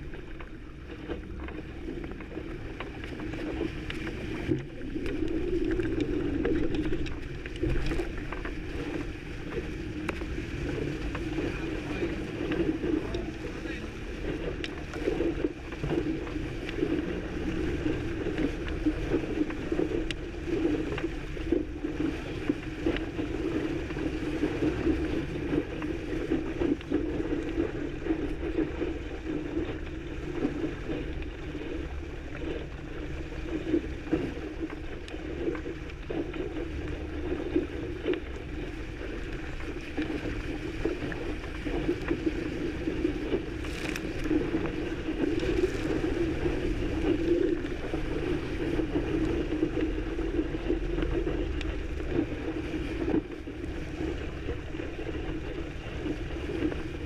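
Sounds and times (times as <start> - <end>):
water rushing along hull: 0.0 - 57.0.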